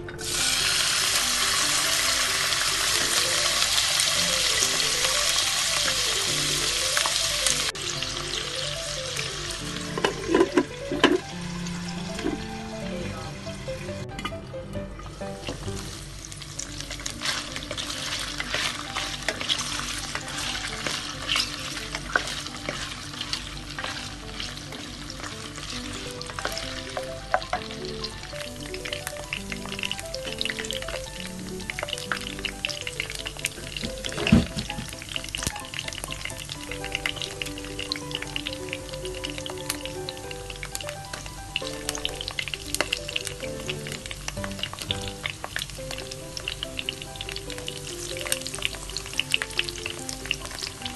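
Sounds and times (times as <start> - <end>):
food sizzling in a pan: 0.0 - 14.0, 15.0 - 50.9.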